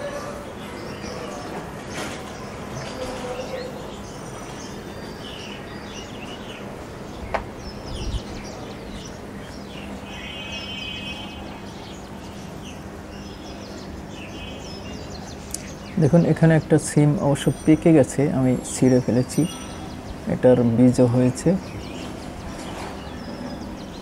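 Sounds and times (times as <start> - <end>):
bird trill: 0.0 - 24.0
birds chirping and calling: 0.0 - 24.0.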